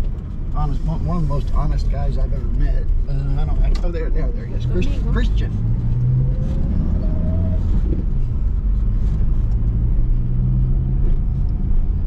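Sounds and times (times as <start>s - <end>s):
car engine rumble from inside: 0.0s - 12.0s
tyres on road: 0.0s - 12.0s.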